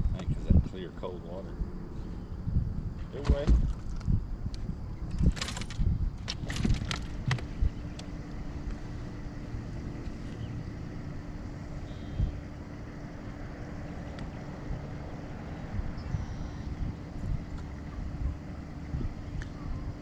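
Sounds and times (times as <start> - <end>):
boat motor humming: 0.0 - 20.0
wind rumble on microphone: 0.0 - 20.0.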